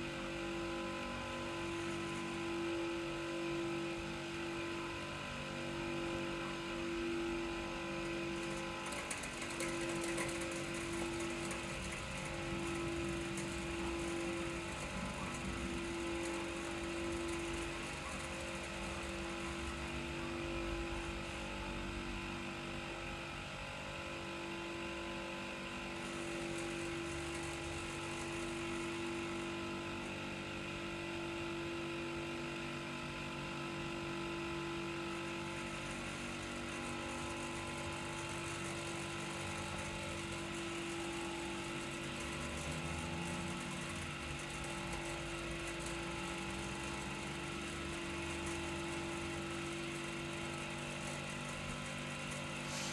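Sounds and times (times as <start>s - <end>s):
air compressor humming: 0.0s - 23.0s, 24.4s - 32.4s, 34.2s - 52.9s.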